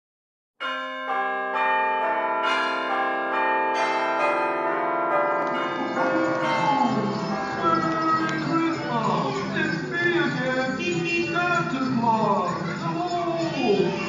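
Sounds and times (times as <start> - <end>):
chiming bells playing a tune: 0.6 - 14.0.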